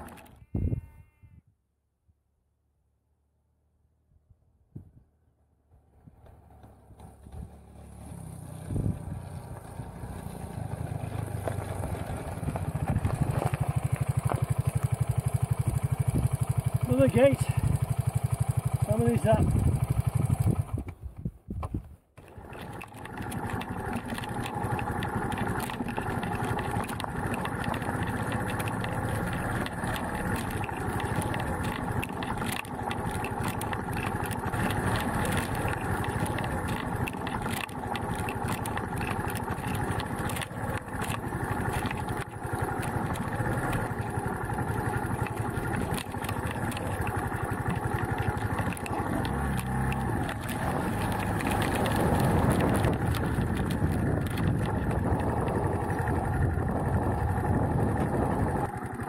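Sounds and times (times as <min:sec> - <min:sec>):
motorcycle engine running: 0:00.0 - 0:00.5, 0:05.7 - 0:21.4, 0:22.2 - 0:59.0.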